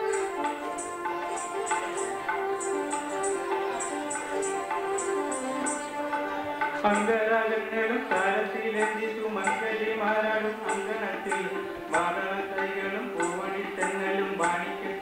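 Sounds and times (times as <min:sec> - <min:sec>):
held keyboard notes: 0:00.0 - 0:15.0.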